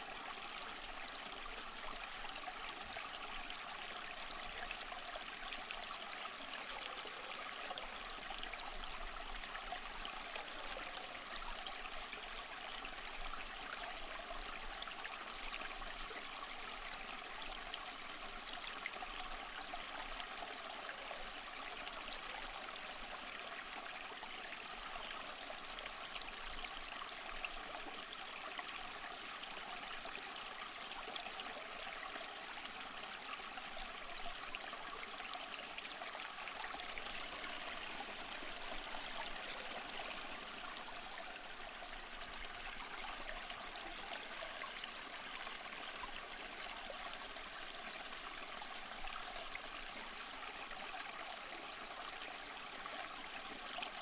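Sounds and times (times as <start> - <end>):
stream babbling and trickling: 0.0 - 54.0.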